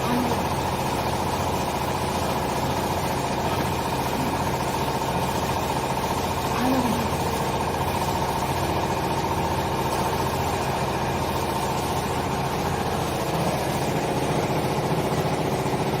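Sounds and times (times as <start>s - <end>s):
hydraulic pump motor humming: 0.0s - 16.0s.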